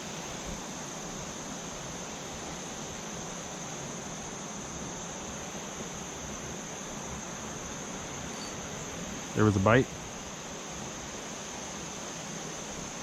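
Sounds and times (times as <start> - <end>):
insects droning: 0.0 - 13.0
rushing hiss: 0.0 - 13.0.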